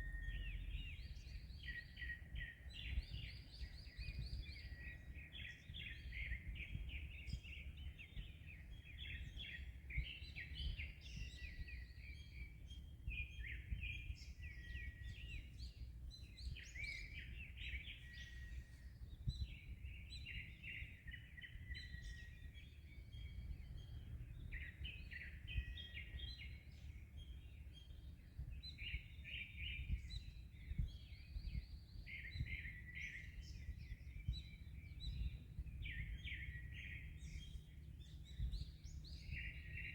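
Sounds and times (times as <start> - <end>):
small birds chirping: 0.0 - 39.9
wind: 0.0 - 39.9.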